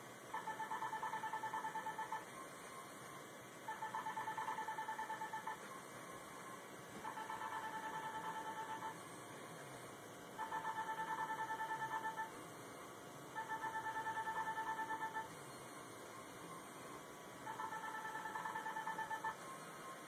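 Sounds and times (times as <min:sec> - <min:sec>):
rapid electronic beeps: 0:00.4 - 0:09.3, 0:10.4 - 0:12.3, 0:13.4 - 0:20.0.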